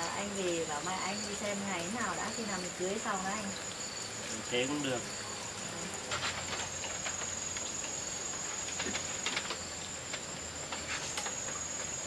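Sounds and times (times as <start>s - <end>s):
insects calling shrill: 0.0s - 12.0s.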